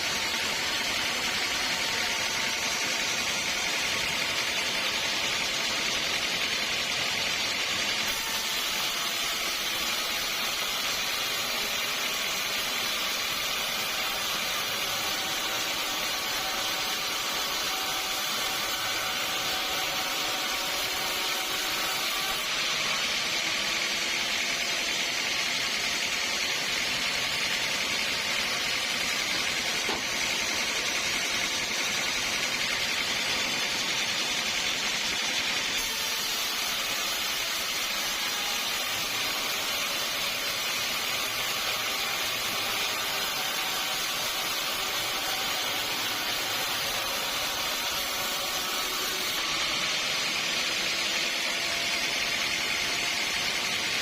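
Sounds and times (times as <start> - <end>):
saw cutting through log: 0.0 - 54.0.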